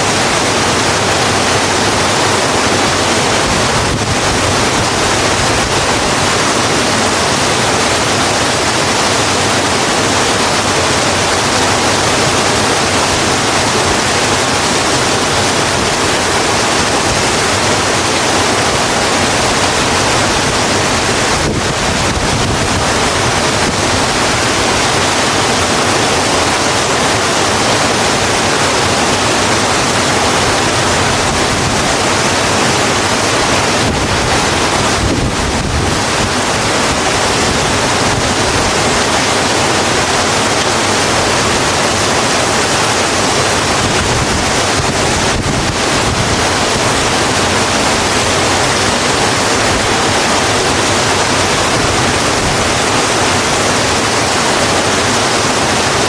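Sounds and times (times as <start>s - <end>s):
heavy rain on a road: 0.0s - 56.0s.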